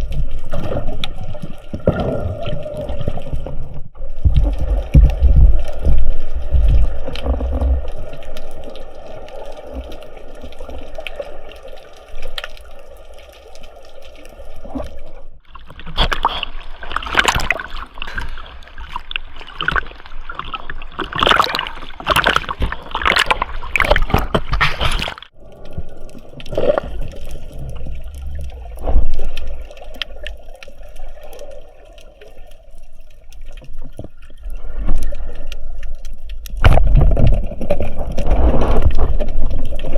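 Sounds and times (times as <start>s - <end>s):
crackling: 0.0s - 39.9s
water trickling and gurgling: 0.0s - 39.9s.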